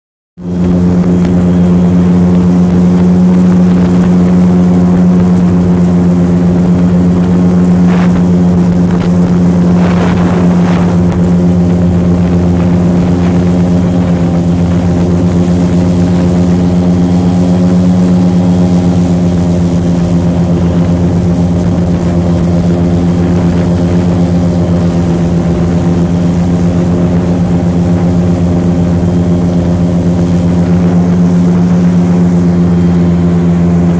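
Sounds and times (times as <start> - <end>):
airboat engine and propeller: 0.4 - 33.9.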